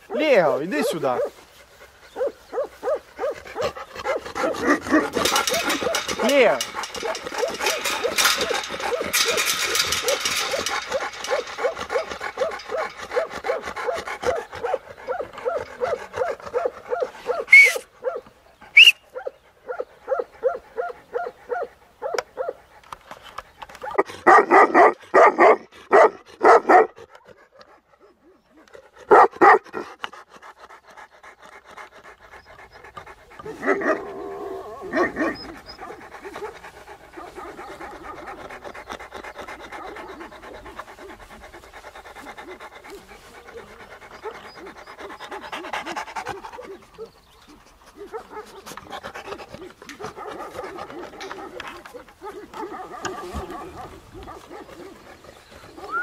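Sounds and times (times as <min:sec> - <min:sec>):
deep dog barks: 0:00.0 - 0:01.4, 0:02.1 - 0:18.3, 0:19.1 - 0:22.6, 0:23.8 - 0:29.9, 0:33.3 - 0:56.0
dogs panting: 0:00.0 - 0:56.0.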